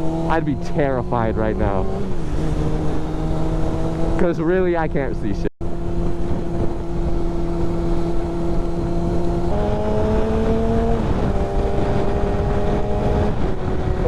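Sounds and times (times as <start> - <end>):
motorcycle engine running: 0.0 - 14.0
rush of wind: 0.0 - 14.0.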